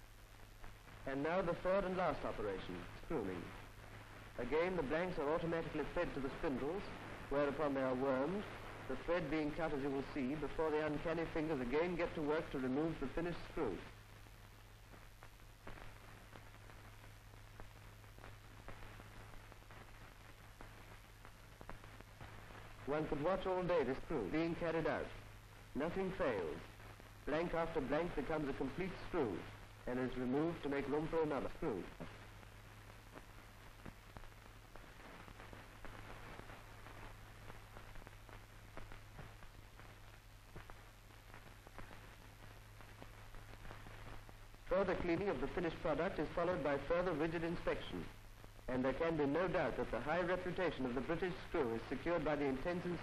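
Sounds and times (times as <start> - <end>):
crackles and clicks: 0.0 - 53.0
faint hiss and low hum: 0.0 - 53.0.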